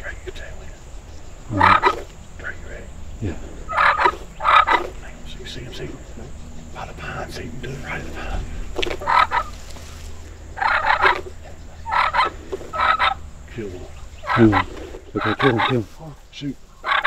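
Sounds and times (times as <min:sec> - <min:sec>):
turkeys gobbling: 0:00.0 - 0:17.0.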